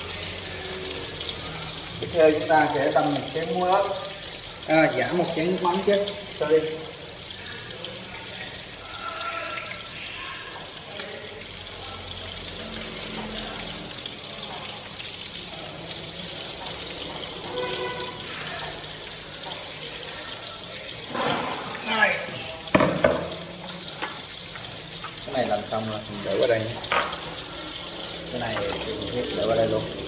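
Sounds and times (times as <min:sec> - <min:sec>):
fish sizzling in oil: 0:00.0 - 0:30.0.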